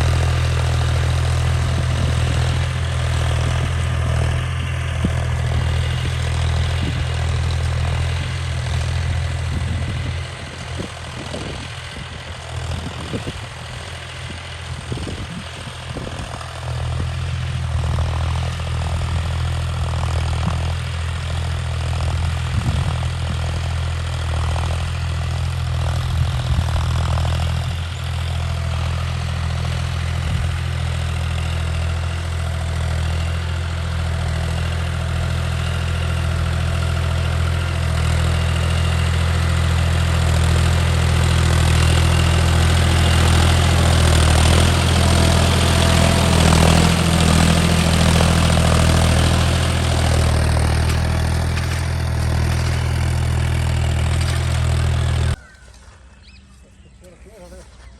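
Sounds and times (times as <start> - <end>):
tractor engine running: 0.0 - 56.4.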